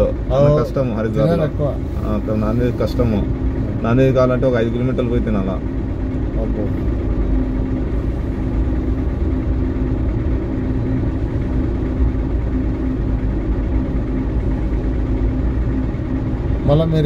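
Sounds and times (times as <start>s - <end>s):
car engine rumble from cabin: 0.0s - 17.0s
faint constant hum: 0.0s - 17.0s.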